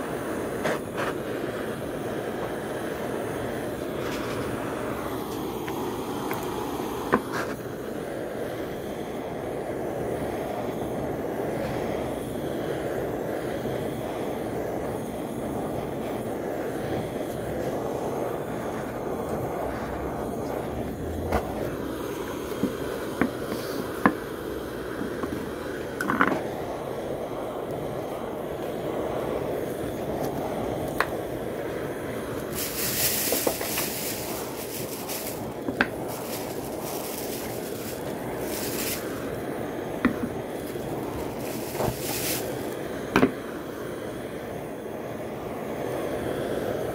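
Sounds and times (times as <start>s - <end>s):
butane torch flame hissing: 0.0s - 46.9s.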